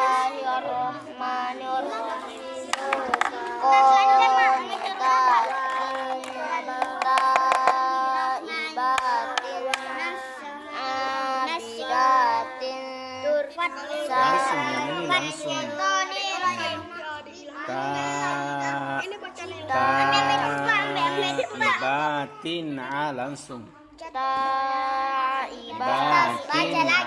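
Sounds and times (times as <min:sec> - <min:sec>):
child singing: 0:00.0 - 0:23.1, 0:23.7 - 0:27.0.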